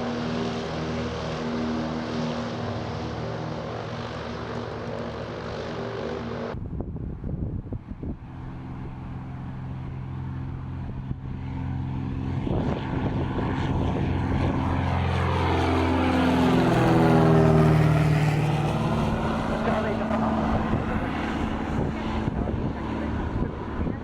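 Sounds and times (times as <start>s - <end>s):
propeller aircraft engine: 0.0s - 24.0s.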